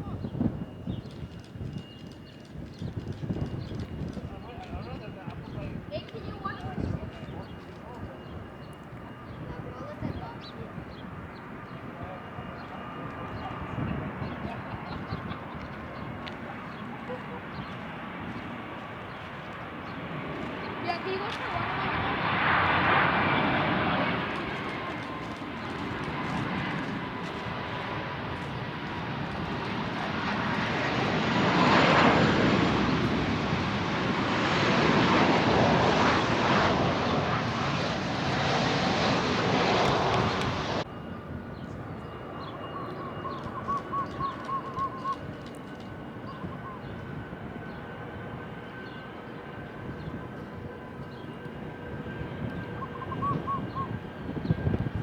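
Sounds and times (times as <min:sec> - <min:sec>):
jet aircraft passing: 0:00.0 - 0:55.0.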